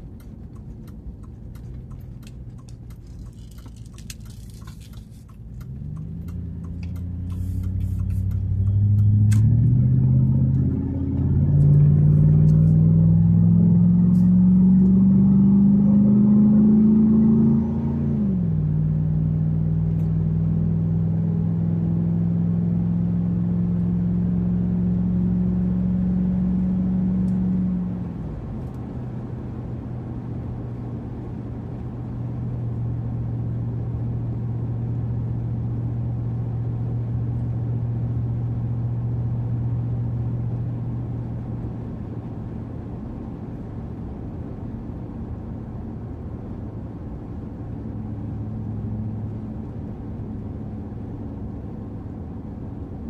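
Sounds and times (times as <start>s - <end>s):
car engine droning: 0.0s - 53.0s
road noise inside cab: 0.0s - 53.0s.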